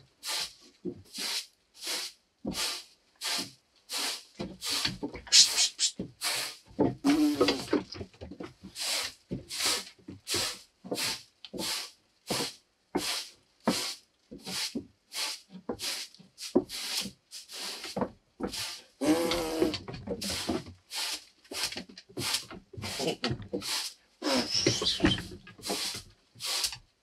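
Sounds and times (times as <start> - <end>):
broom sweeping wooden floor: 0.2 - 8.0, 8.6 - 26.9.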